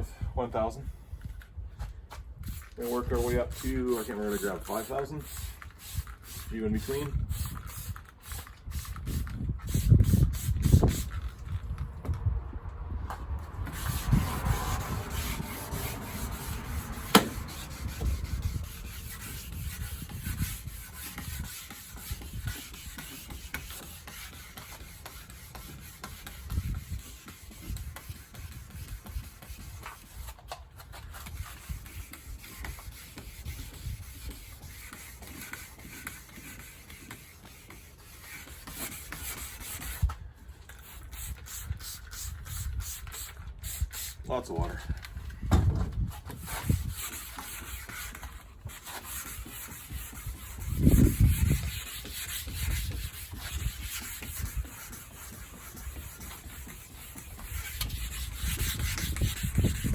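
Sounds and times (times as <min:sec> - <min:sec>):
wet sanding rubbing: 0:02.4 - 0:11.8, 0:13.3 - 0:59.9.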